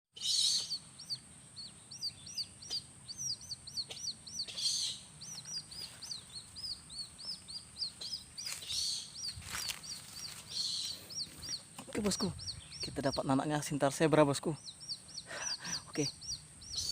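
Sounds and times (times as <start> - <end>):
small bird chirping: 0.2 - 16.9.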